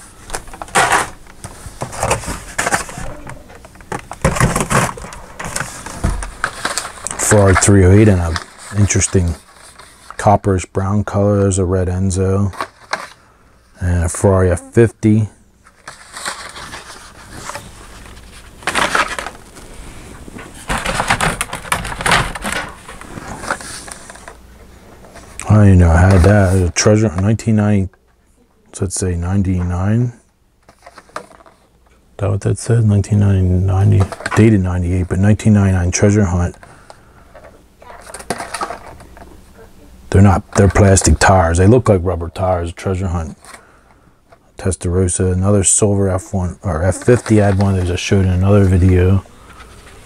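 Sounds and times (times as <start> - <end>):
plastic and card rustling and clattering: 0.0 - 10.7, 12.3 - 14.3, 15.6 - 27.4, 30.6 - 31.9, 32.6 - 42.4, 43.0 - 50.0.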